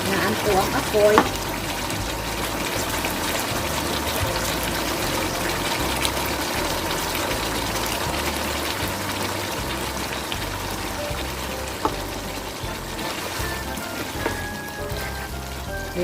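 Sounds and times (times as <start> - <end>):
sauce bubbling in a pan: 0.0 - 16.0.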